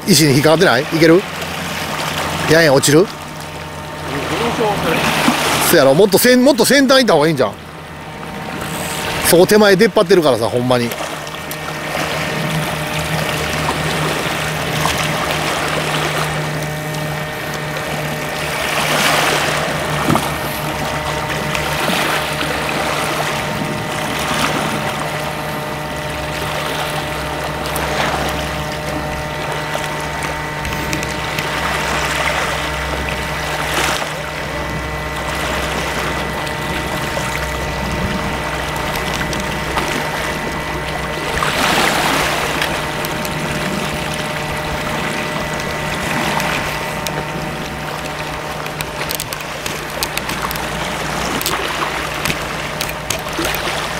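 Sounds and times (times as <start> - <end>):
steady low hum: 0.0 - 53.9
waves washing against rocky shore: 0.0 - 53.9.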